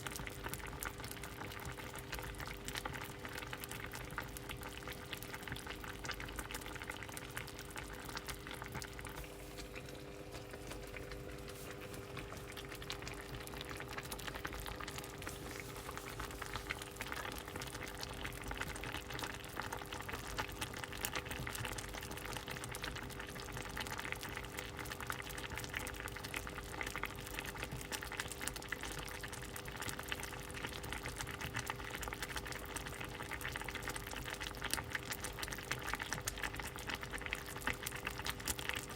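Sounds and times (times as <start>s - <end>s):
faint steady hum: 0.0s - 38.9s
soup bubbles popping: 0.0s - 38.9s.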